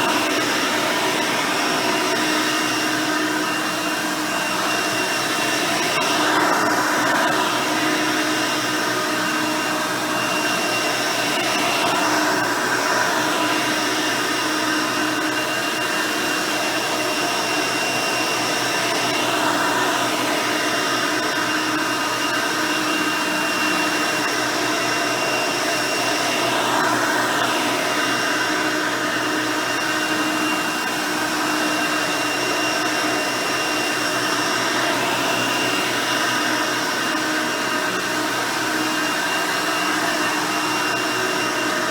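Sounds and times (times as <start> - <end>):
upright vacuum cleaner whine: 0.0 - 41.9.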